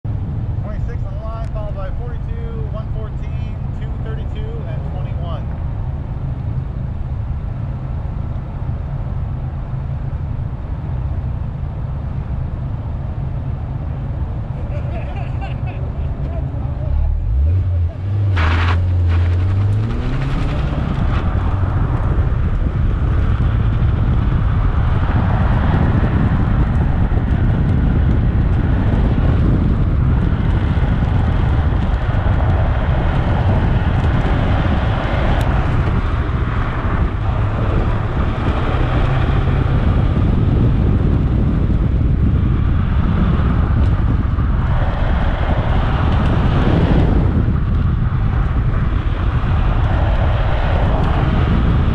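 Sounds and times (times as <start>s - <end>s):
wind buffeting microphone: 0.0s - 51.9s
car engine revving: 0.4s - 51.9s.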